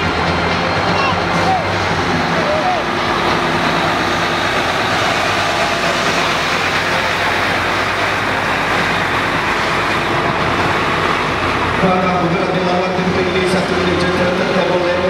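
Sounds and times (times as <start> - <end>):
fire engines diesel engines driving: 0.0 - 15.0.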